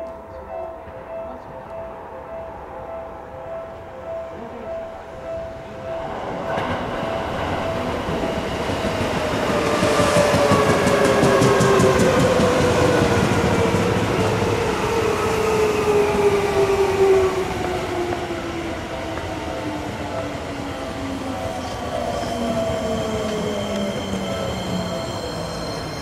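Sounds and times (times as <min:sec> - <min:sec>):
train wheels rumbling: 0:03.6 - 0:26.0.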